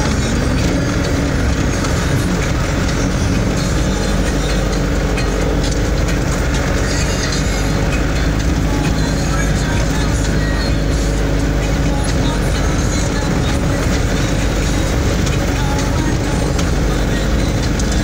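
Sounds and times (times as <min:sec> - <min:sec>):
engine and tyre noise: 0:00.0 - 0:18.0
vehicle body rattling over bumps: 0:00.0 - 0:18.0.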